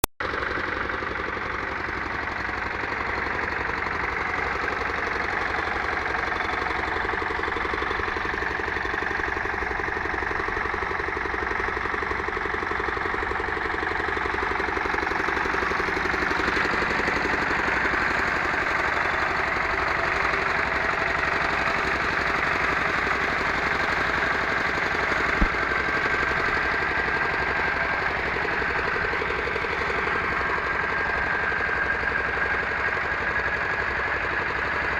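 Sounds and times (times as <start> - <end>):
diesel engine knocking: 0.2 - 34.9.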